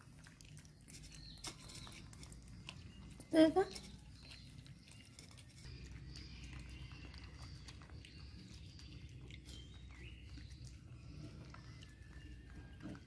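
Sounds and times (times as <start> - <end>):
young animals squeaking: 0.3 - 13.0.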